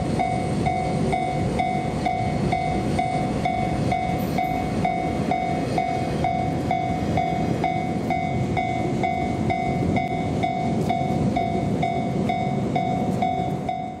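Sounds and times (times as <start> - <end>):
level crossing alarm ringing: 0.0 - 14.0
passing train rumble: 0.0 - 14.0.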